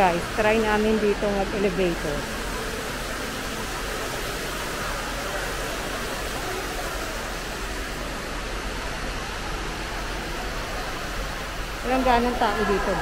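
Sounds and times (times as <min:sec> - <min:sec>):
indoor lobby background hiss: 0:00.0 - 0:13.0.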